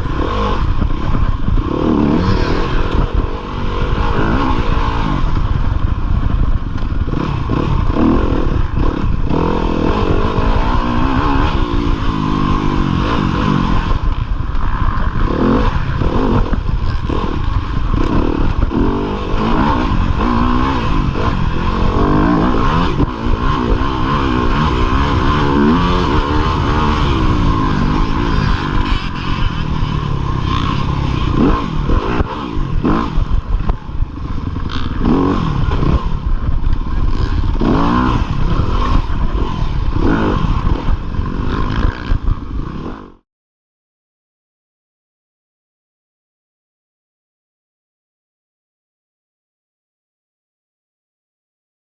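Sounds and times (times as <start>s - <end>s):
dirt bike engine revving: 0.0s - 43.2s.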